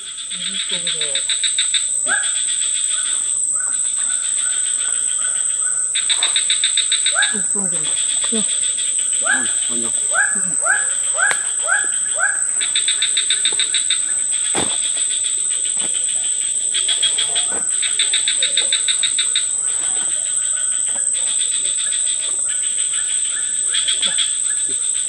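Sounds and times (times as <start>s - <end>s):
fast-pulsed insect chirping: 0.0s - 25.0s
insects high-pitched drone: 0.0s - 25.0s.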